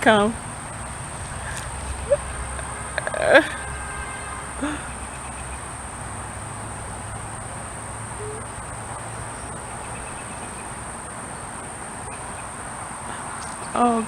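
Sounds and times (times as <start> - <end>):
insect chirring: 0.1 - 14.0.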